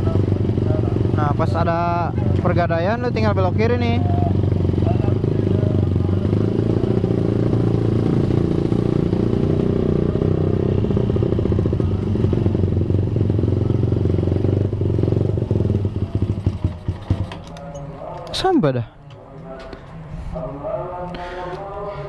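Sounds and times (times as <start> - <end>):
motorcycle engine drone: 0.0 - 18.5.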